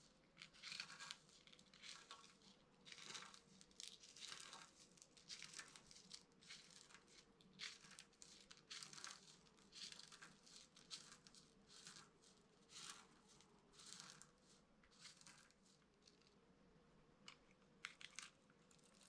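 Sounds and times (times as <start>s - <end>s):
dry soap crunching: 0.1s - 16.4s, 17.2s - 19.0s.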